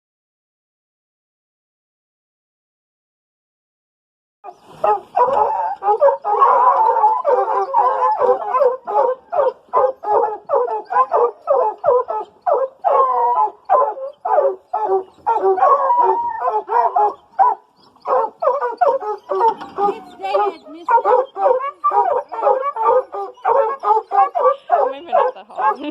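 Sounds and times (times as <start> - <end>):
hounds barking and baying: 4.5 - 25.9.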